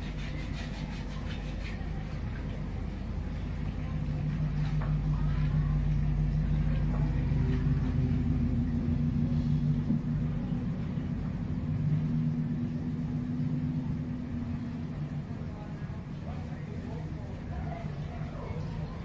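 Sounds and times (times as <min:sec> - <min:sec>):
low mechanical hum: 0:00.0 - 0:19.0
held low tones: 0:01.9 - 0:19.0.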